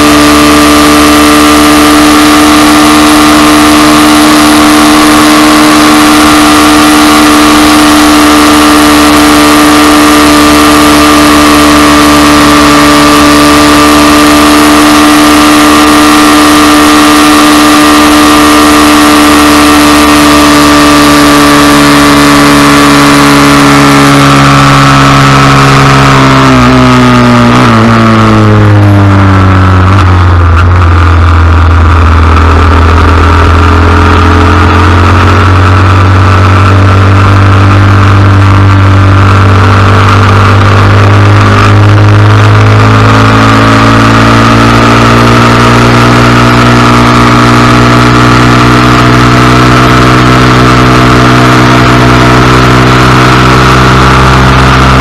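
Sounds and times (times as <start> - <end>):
small motorcycle engine running hard: 0.0 - 55.0.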